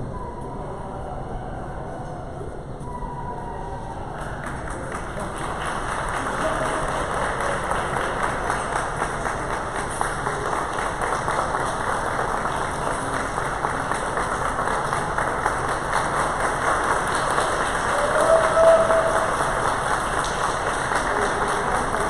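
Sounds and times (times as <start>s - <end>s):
spectators applauding: 4.0s - 22.0s.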